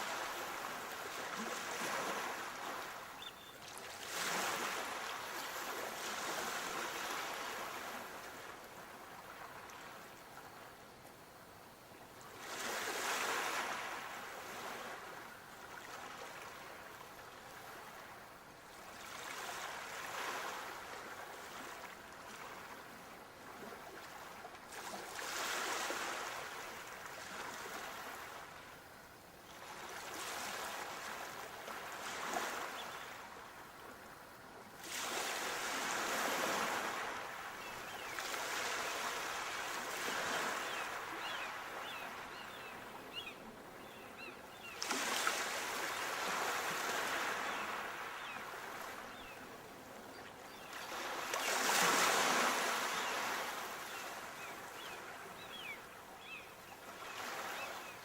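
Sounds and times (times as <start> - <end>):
sea waves breaking on shore: 0.0 - 10.6, 12.3 - 28.8, 29.5 - 58.0.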